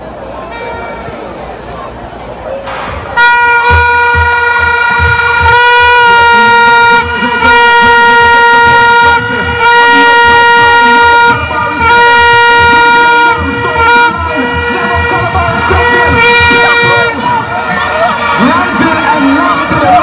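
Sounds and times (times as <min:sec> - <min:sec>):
horn blasts: 0:02.8 - 0:20.0.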